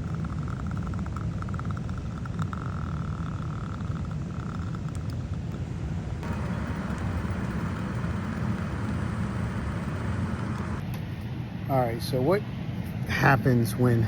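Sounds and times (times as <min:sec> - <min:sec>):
air conditioning rumble and hiss: 0:00.0 - 0:14.0.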